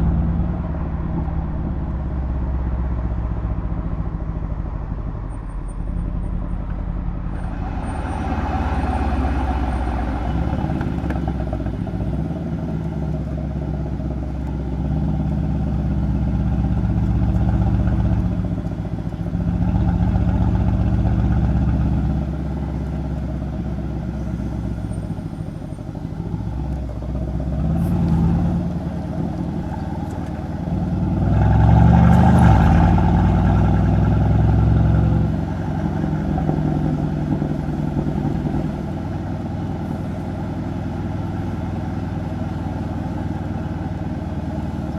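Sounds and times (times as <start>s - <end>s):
car engine exhaust revving: 0.0s - 44.9s.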